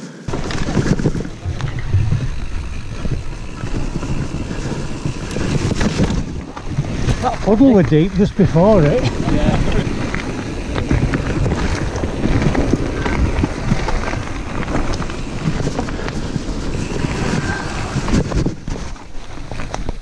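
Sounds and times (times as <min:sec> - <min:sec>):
tyres crunching over gravel: 0:00.3 - 0:18.2
bike chain and frame rattling: 0:00.3 - 0:20.0
wind buffeting microphone: 0:00.3 - 0:20.0.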